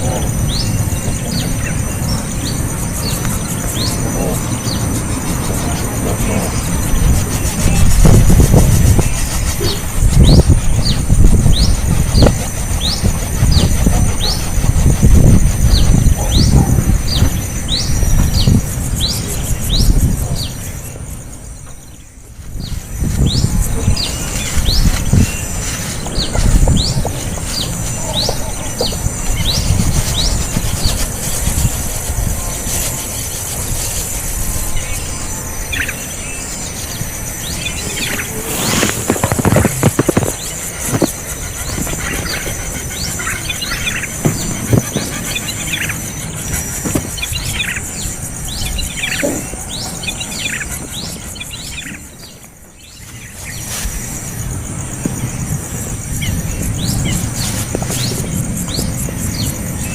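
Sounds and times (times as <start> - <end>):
high-pitched hiss: 0.0 - 59.9
high-pitched insect buzz: 0.0 - 59.9
small bird chirping: 0.0 - 59.9.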